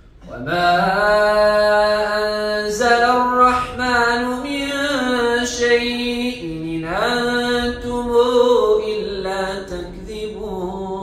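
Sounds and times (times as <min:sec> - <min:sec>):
man chanting melodically: 0:00.2 - 0:11.0.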